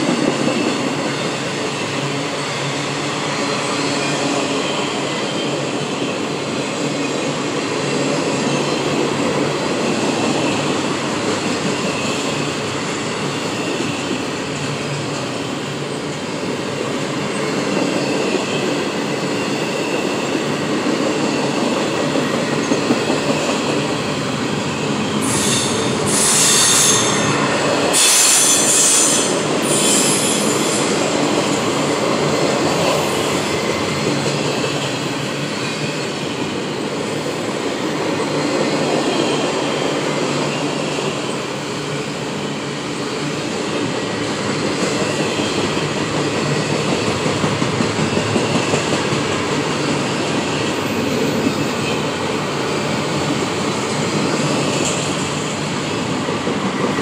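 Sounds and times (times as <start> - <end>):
freight train rumbling on rails: 0.0 - 57.0
train wheels squealing: 0.0 - 57.0.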